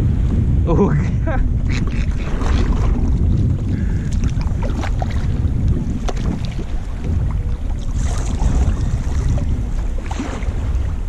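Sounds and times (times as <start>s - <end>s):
wind buffeting microphone: 0.0s - 11.0s
water sloshing against kayak: 1.2s - 11.0s.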